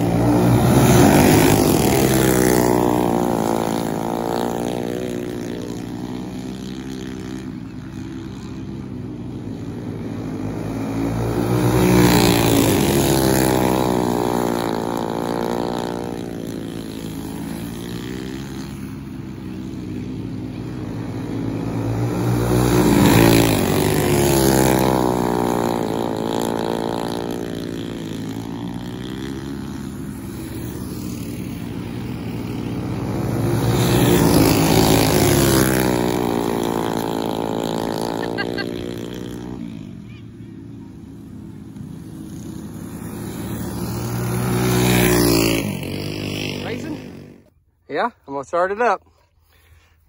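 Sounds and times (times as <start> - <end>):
go-kart engines racing: 0.0 - 49.0.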